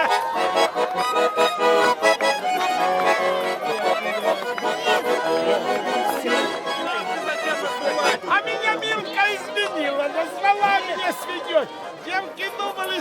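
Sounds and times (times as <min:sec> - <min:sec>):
button accordion tune: 0:00.0 - 0:12.8.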